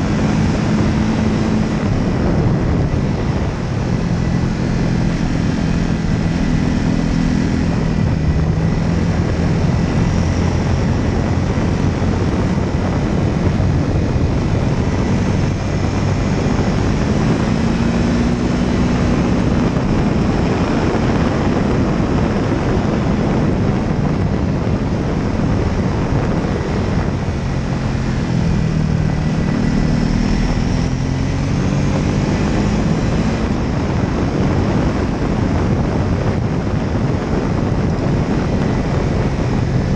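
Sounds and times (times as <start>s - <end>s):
propeller aircraft engine: 0.0s - 39.9s
wind rushing over microphone: 0.0s - 39.9s.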